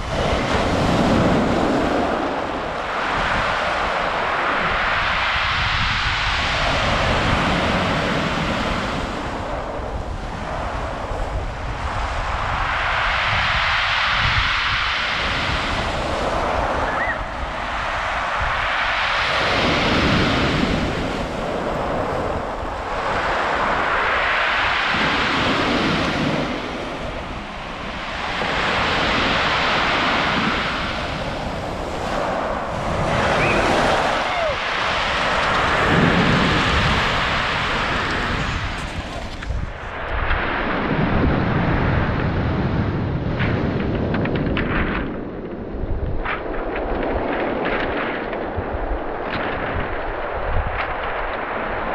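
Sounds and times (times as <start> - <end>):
waves breaking on pebble beach: 0.0 - 42.8
wind rumble on microphone: 0.0 - 51.9.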